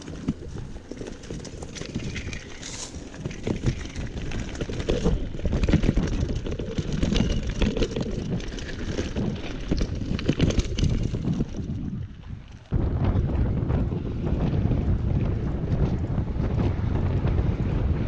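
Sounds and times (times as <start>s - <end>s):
mountain bike rattling over gravel: 0.0s - 18.0s
wind noise on microphone: 0.0s - 18.0s.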